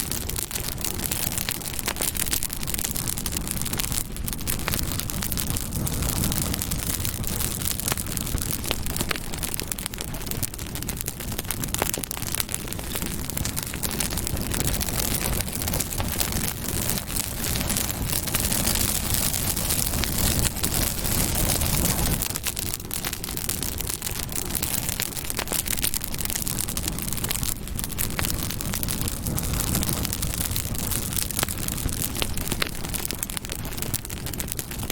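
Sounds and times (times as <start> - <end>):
campfire crackling and popping: 0.0 - 34.9
low rush of flame: 0.0 - 34.9.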